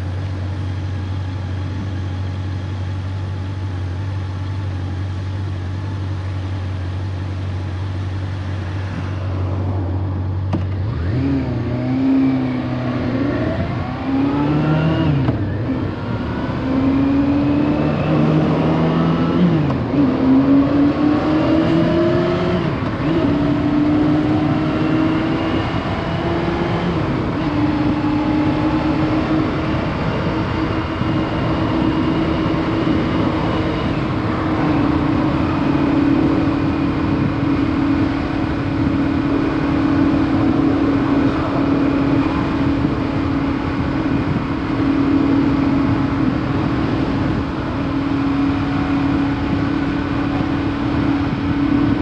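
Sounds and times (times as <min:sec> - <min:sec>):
motorcycle engine cruising: 0:00.0 - 0:52.0.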